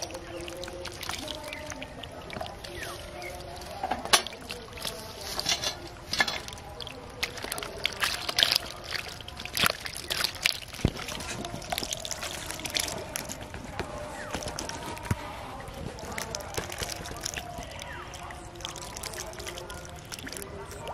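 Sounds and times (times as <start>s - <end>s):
fish flapping and splashing in water: 0.0s - 20.9s.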